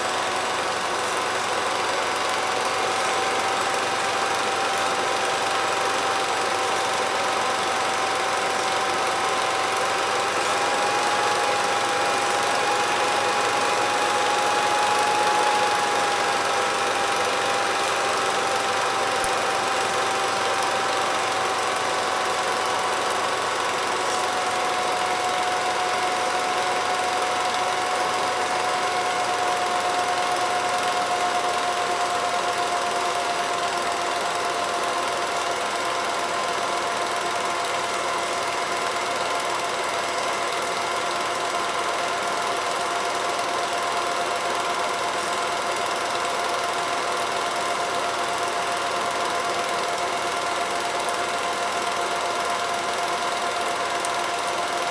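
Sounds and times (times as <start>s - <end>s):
film projector motor whine: 0.0s - 54.9s.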